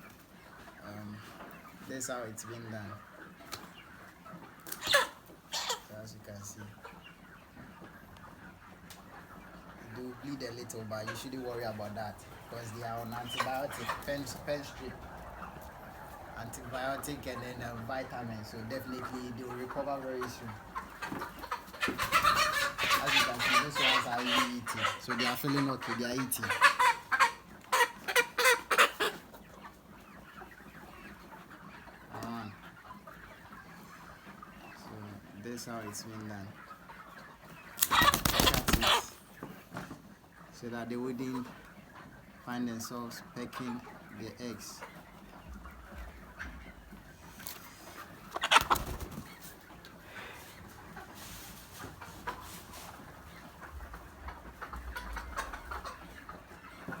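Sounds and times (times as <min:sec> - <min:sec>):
chickens squawking: 0:00.0 - 0:57.0
many birds clucking and chirping: 0:00.0 - 0:57.0.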